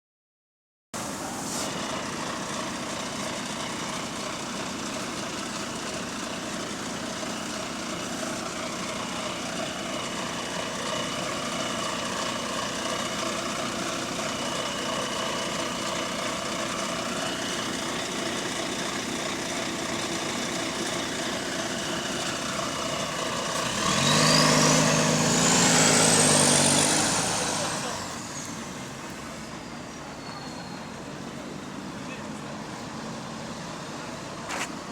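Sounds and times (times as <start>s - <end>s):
bus engine running: 1.0s - 34.9s.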